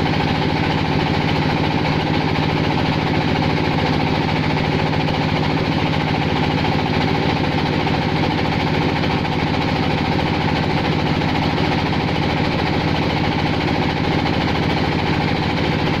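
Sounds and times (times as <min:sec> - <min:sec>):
clay machine pulsing: 0:00.0 - 0:16.0.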